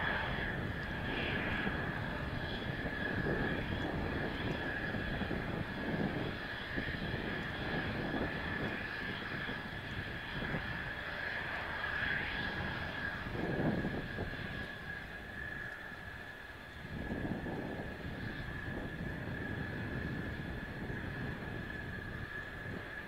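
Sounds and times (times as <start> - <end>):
jet engine whine: 0.0 - 23.0
wind buffeting microphone: 0.0 - 23.0.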